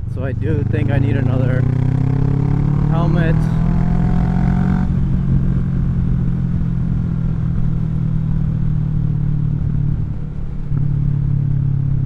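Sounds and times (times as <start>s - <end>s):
motorcycle engine while riding: 0.0s - 12.0s.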